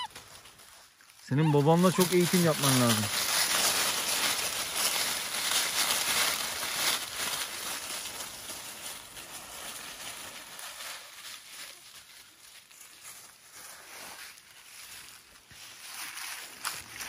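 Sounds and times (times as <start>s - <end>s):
dogs rustling through dry leaves: 0.0s - 17.0s.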